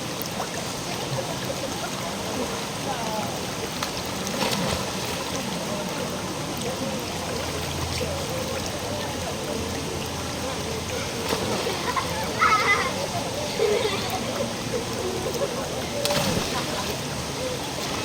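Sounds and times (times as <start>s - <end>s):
faint distant voices: 0.0s - 18.0s
river running over rocks: 0.0s - 18.0s.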